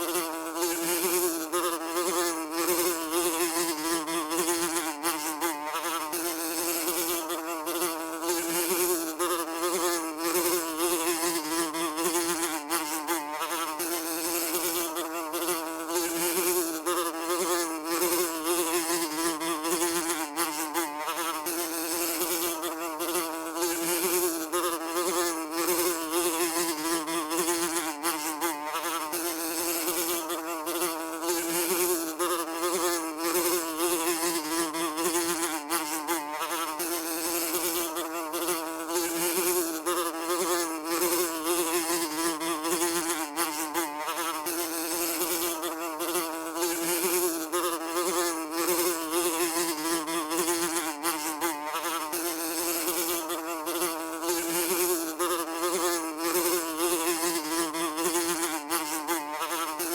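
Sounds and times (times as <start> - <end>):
fly buzzing: 0.0 - 59.9.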